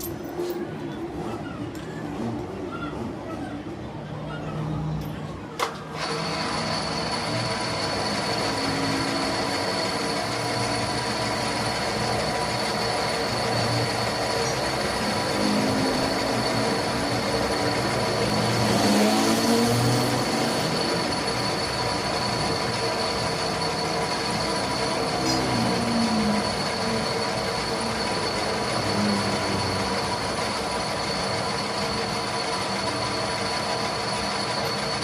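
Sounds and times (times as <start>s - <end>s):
lathe machine running: 6.0s - 35.0s
metal lathe cutting squeal: 6.0s - 35.0s.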